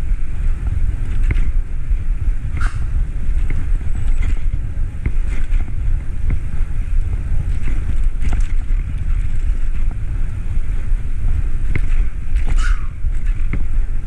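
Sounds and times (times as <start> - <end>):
bicycle clicks and rattles: 0.0 - 14.0
wind buffeting microphone: 0.0 - 14.0.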